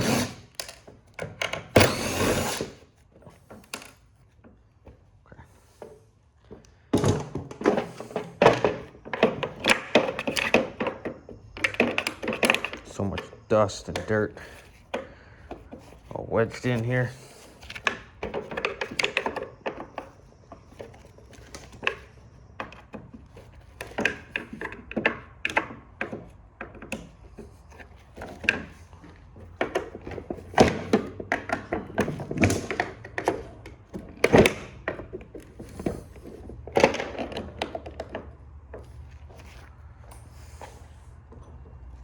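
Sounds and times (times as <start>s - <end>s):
hand tools clicking and scraping: 0.0s - 42.0s.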